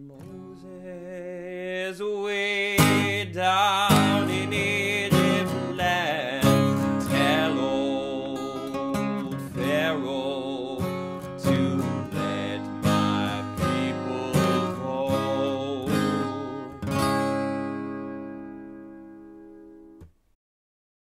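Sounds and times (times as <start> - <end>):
man singing: 0.0 - 17.2
acoustic guitar strumming: 0.0 - 20.1.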